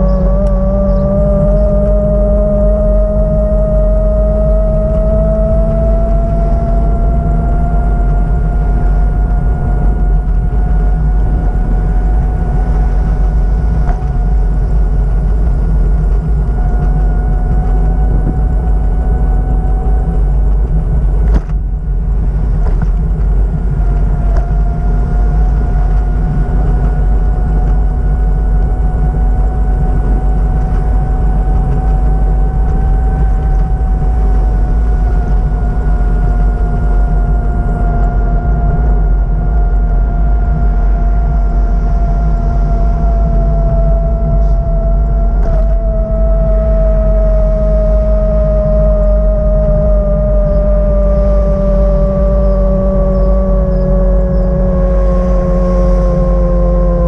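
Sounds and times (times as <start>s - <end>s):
vehicle rumble: 0.0s - 57.0s
whine sinking in pitch: 0.0s - 57.0s.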